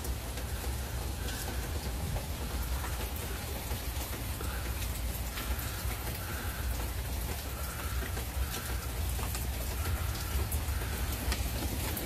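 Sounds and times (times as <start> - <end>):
sharp water drips: 0.0 - 12.0
steady rain: 0.0 - 12.0.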